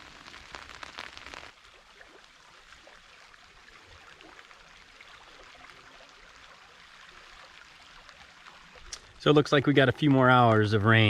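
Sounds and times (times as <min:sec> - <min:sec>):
light rain falling: 0:00.0 - 0:11.0.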